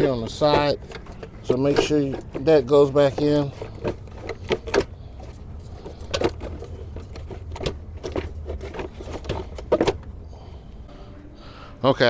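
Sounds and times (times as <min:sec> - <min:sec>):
plastic box knocking and clattering: 0:00.0 - 0:10.1
steady low hum: 0:00.0 - 0:12.0.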